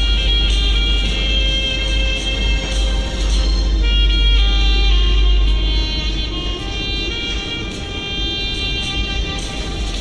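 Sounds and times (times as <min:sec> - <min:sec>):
car rumble in tunnel: 0:00.0 - 0:10.0
sustained background music: 0:00.0 - 0:10.0.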